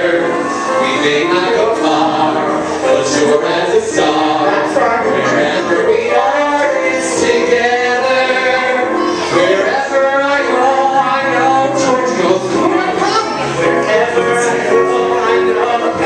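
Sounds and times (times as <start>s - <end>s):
two men singing a duet: 0.0s - 16.0s.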